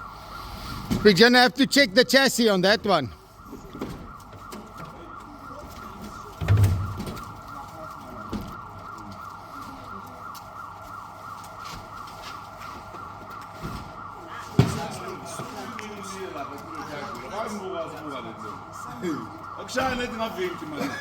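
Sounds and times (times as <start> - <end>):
faint siren wailing: 0.0 - 21.0.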